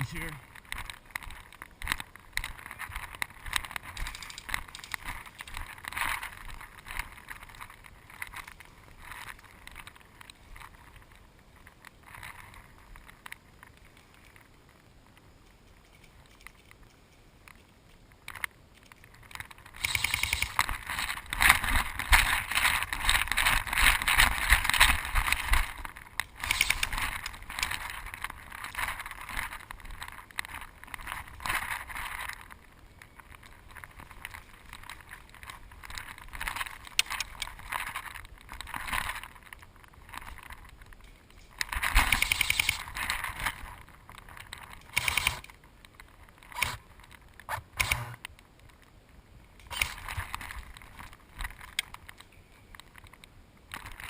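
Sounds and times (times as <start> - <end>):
rustling through undergrowth: 0.0 - 54.0.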